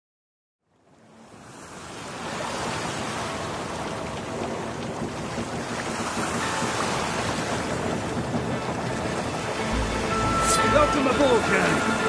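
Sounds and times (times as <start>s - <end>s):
wind: 0.6s - 12.0s
ocean surf: 0.9s - 12.0s.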